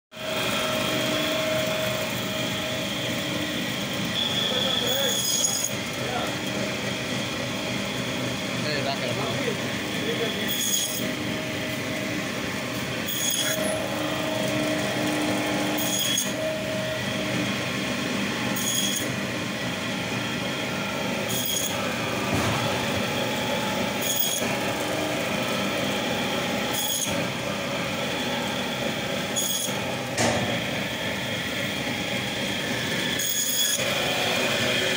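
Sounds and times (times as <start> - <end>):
electric band saw cutting fish: 0.1 - 34.9.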